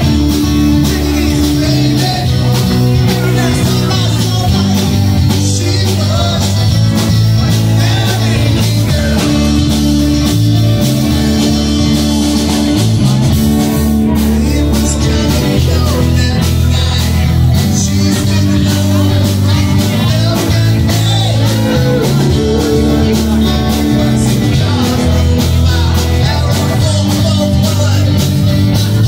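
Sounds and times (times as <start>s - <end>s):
live blues-rock band: 0.0s - 29.0s.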